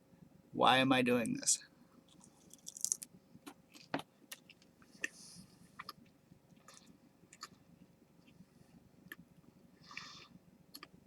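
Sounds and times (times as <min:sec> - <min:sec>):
faint crunchy chewing: 0:02.1 - 0:11.0.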